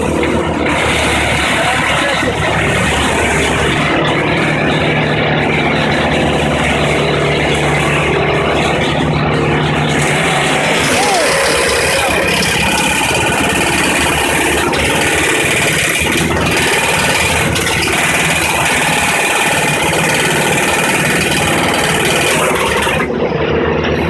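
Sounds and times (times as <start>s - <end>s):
wood chipper engine running: 0.0s - 24.0s.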